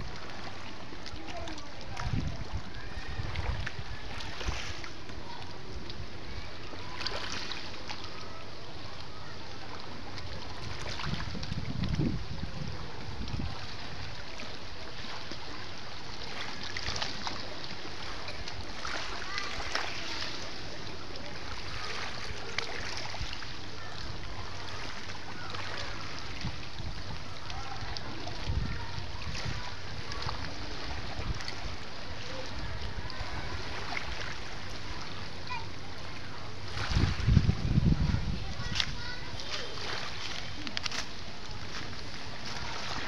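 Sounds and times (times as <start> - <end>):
faint small splashes: 0.0 - 43.0
small waves lapping on rocks: 0.0 - 43.0.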